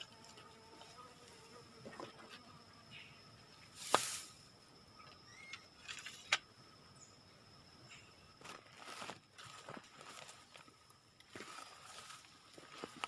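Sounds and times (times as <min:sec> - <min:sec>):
faint insect drone: 0:00.0 - 0:13.0.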